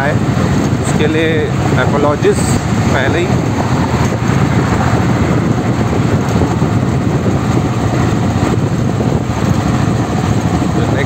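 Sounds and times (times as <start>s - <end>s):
road noise: 0.0s - 11.0s
vehicle engine: 0.0s - 11.0s
wind buffeting microphone: 0.0s - 11.0s.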